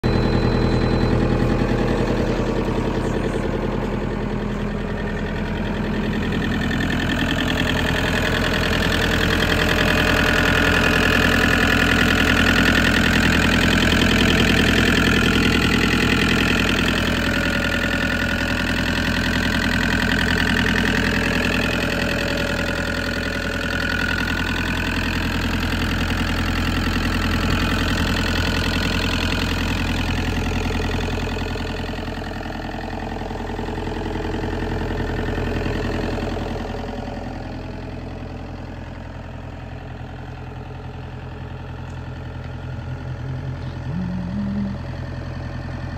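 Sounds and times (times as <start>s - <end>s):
mini excavator diesel engine idling: 0.0s - 45.9s.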